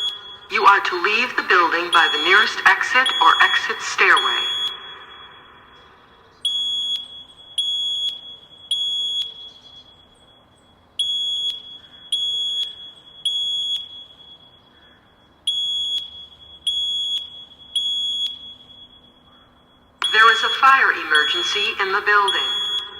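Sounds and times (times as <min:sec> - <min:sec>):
fire alarm beeps: 0:00.0 - 0:22.9.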